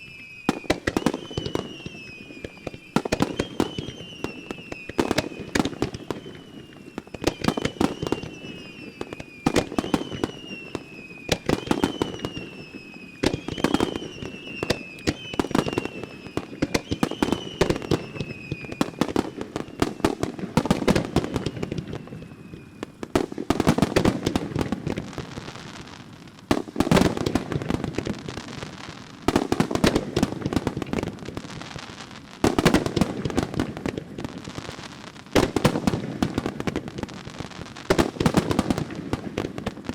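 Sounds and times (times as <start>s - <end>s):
fireworks exploding with crackling: 0.0s - 39.9s.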